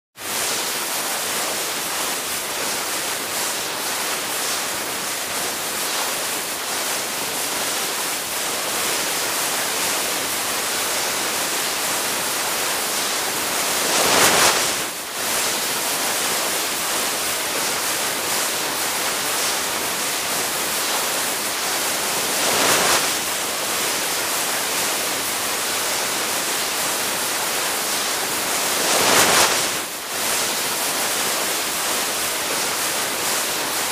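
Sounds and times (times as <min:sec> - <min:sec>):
skis sliding over snow: 0:00.2 - 0:33.9.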